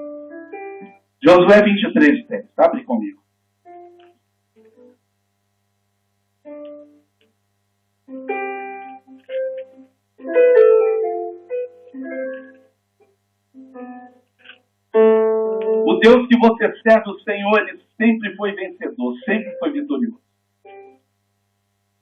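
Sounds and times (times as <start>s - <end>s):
electric keyboard played softly: 0.0s - 5.0s, 6.4s - 7.3s, 8.0s - 21.1s.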